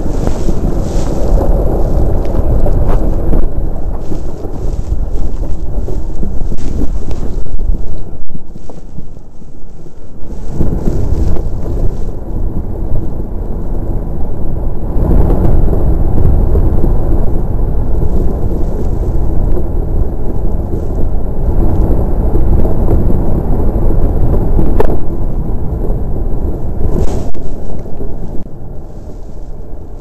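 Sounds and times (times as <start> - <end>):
iceboat runners rumbling on ice: 0.0 - 30.0.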